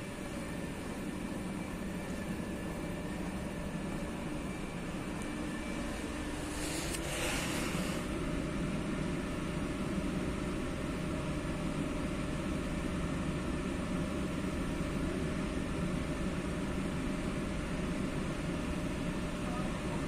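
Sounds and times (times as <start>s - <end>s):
train running drone: 0.0s - 20.0s.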